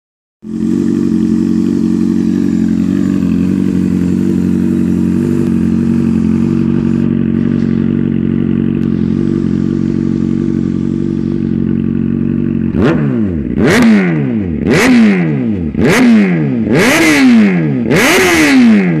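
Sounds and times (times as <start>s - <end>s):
motorcycle engine idling: 0.4s - 19.0s.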